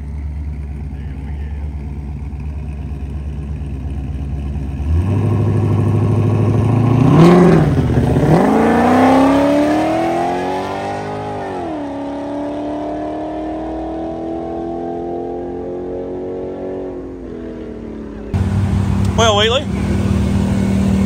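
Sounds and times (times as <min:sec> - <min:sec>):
drag car engine revving: 0:00.0 - 0:17.0.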